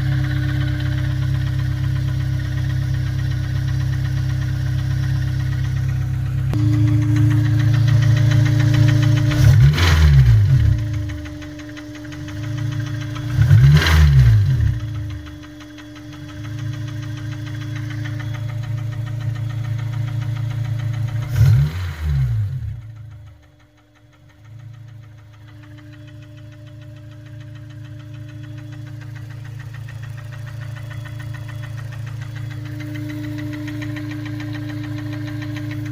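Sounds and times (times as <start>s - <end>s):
car engine idling and revving: 0.0s - 35.9s
engine knocking: 0.0s - 35.9s.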